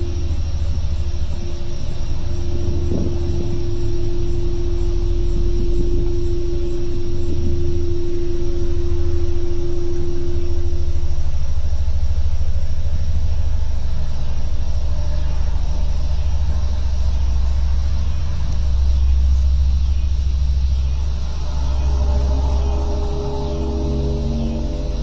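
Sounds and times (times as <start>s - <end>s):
deep rumble from the sky: 0.0s - 25.0s
droning tone: 0.0s - 25.0s.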